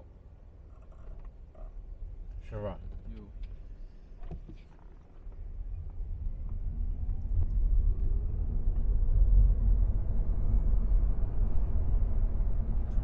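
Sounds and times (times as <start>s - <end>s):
road and tyre rumble in car: 0.0s - 13.0s.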